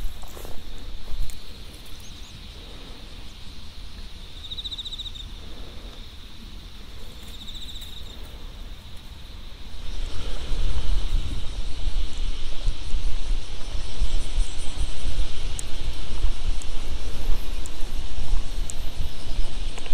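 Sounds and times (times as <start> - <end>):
insect pulsing trills: 0.0 - 19.9
insects shrilling: 0.0 - 19.9.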